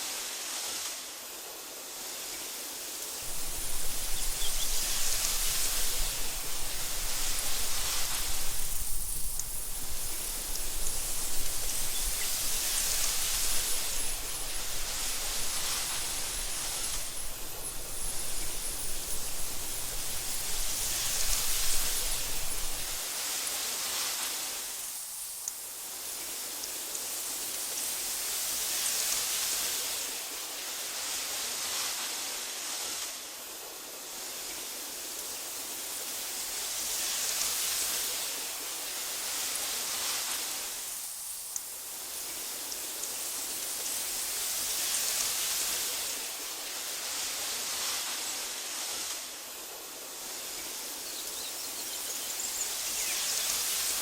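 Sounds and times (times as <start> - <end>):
wind blowing through grass: 0.0 - 54.0.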